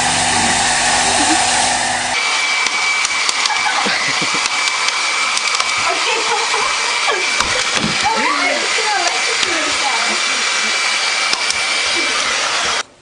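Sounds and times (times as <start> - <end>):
hair dryer running: 0.0 - 12.9.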